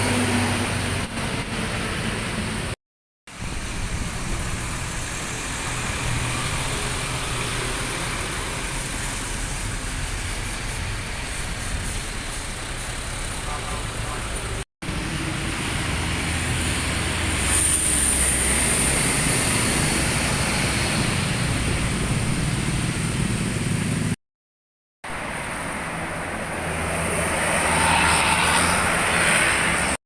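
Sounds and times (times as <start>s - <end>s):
buses driving past: 0.0s - 2.8s, 3.4s - 24.2s, 25.1s - 30.0s.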